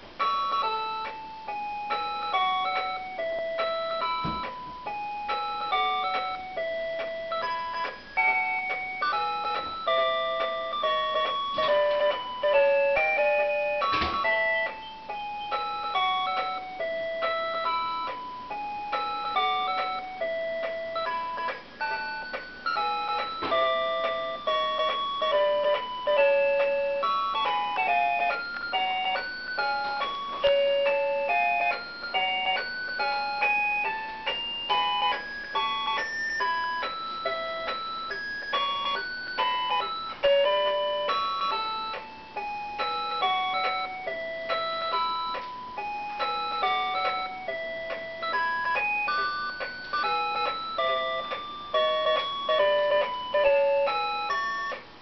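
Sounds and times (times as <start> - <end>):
tinny electronic melody: 0.2 - 54.8.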